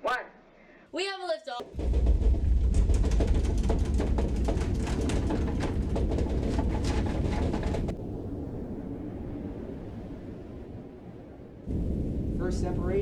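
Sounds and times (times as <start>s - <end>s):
rocket engines rumbling and crackling: 1.6s - 13.0s.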